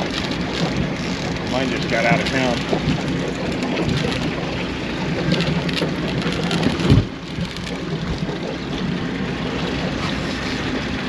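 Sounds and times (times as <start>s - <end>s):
boat engine running: 0.0s - 11.0s
wind and water rushing: 0.0s - 11.0s.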